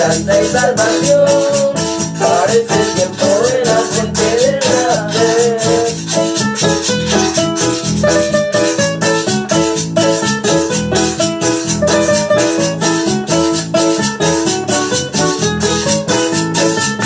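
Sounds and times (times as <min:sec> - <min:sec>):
electronic keyboard chords: 0:00.0 - 0:17.0
hand shaker beat: 0:00.0 - 0:17.0
nylon-string guitar strummed: 0:00.0 - 0:17.0.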